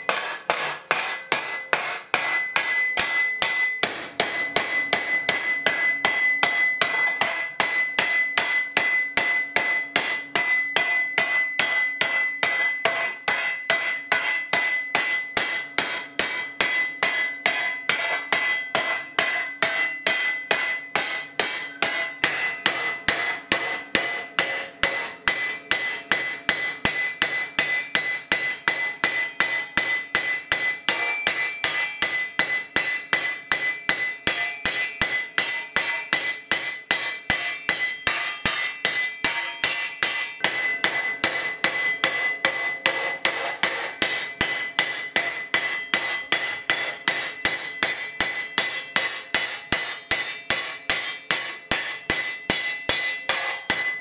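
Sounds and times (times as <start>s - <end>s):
hammer clanging on steel: 0.0s - 54.0s
high ringing of steel: 0.0s - 54.0s.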